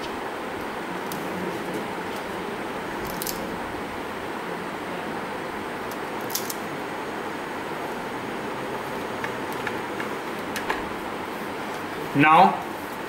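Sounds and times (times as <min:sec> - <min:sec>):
room noise hiss: 0:00.0 - 0:13.0.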